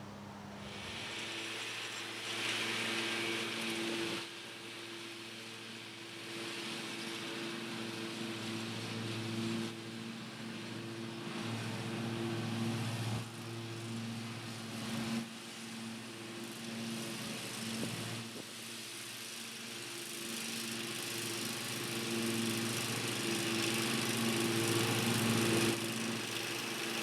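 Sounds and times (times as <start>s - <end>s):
lawn tractor engine running: 0.7s - 27.0s.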